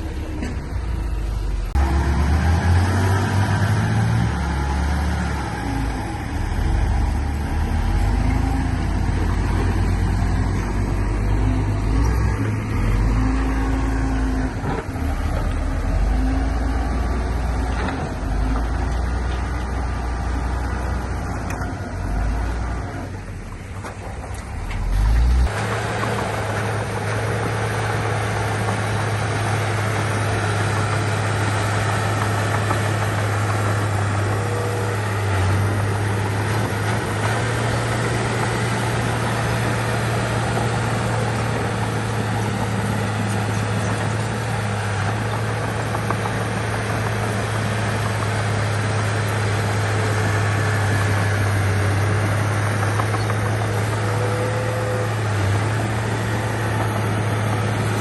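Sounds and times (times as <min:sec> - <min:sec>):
heavy diesel engine rumbling: 0:00.0 - 0:58.0.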